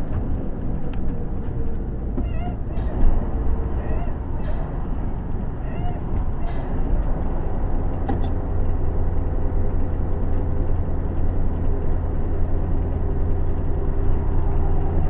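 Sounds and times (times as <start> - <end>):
truck engine and road drone: 0.0 - 15.0.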